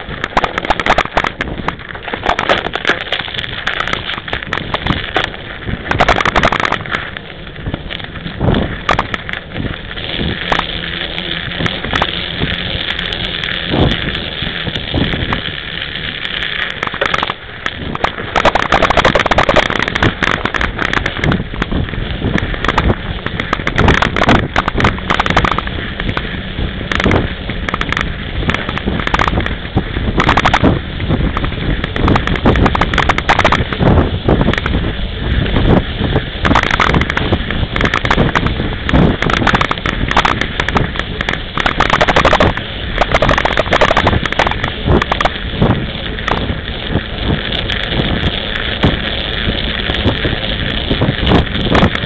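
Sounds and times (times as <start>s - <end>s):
bike clattering over bumps: 0.0s - 52.0s
bike tyres rolling over snow: 0.0s - 52.0s
wind on microphone: 0.0s - 52.0s.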